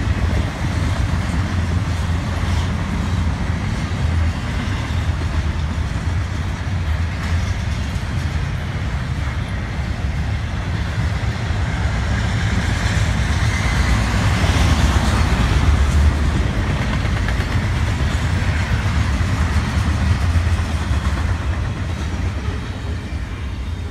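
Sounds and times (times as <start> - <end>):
freight train rumbling past: 0.0 - 23.9.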